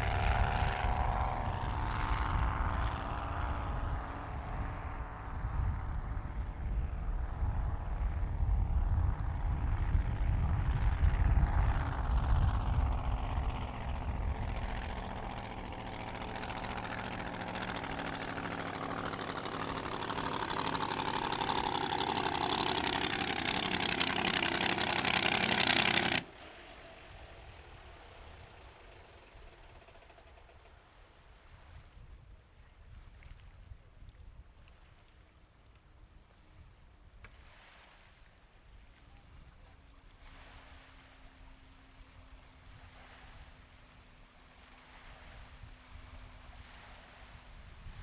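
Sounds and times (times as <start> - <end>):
racing boat engine running: 0.0 - 33.4, 36.2 - 48.0.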